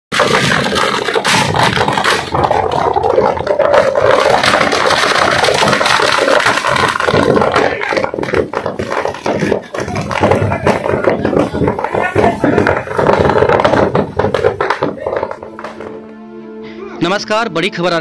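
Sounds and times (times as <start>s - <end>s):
fire roaring: 0.1s - 15.9s
firecrackers crackling and popping: 0.1s - 16.2s.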